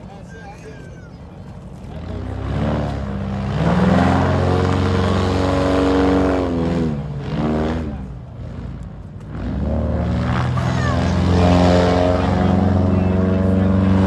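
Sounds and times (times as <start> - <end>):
airboat engine and propeller: 0.0 - 14.0.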